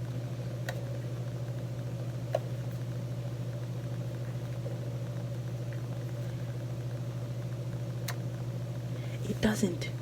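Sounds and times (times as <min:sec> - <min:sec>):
low pulsing hum: 0:00.0 - 0:10.0.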